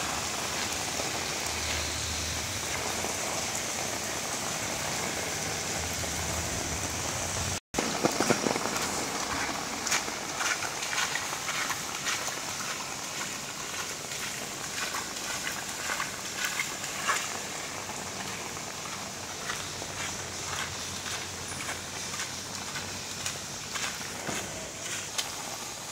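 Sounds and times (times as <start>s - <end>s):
low engine hum: 0.0s - 7.6s, 8.4s - 25.8s
heavy rain: 0.0s - 25.9s
sharp rain taps: 0.0s - 25.9s.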